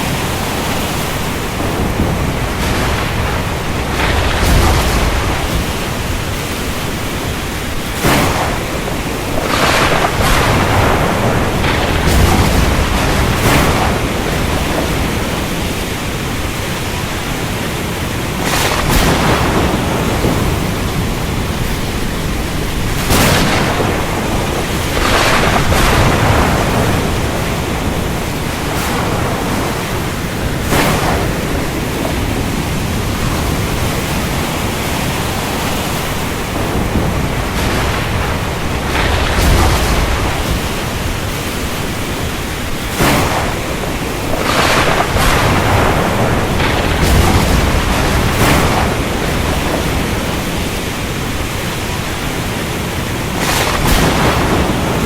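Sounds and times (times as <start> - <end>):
heavy rain falling: 0.0 - 55.0
low rolling thunder rumbles: 0.0 - 55.0
sharp thunder cracks: 0.0 - 55.0.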